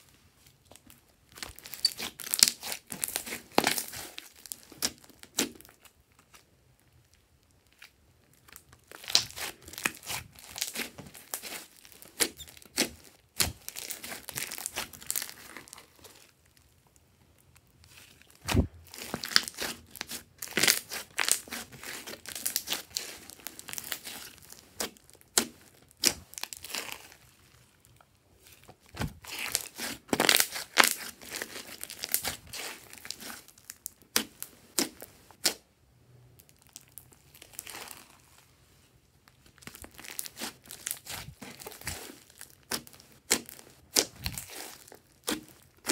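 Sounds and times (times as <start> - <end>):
slime squelching and crackling: 0.7 - 35.6, 36.4 - 38.6, 39.3 - 45.9.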